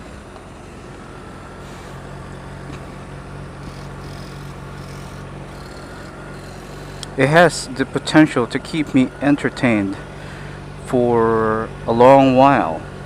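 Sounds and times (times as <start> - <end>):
motorcycle engine humming: 0.0 - 13.0.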